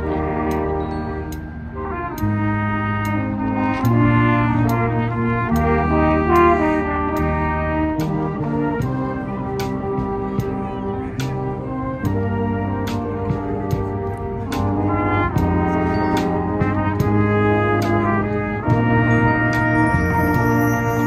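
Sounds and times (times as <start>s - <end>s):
wind band playing: 0.0s - 21.0s.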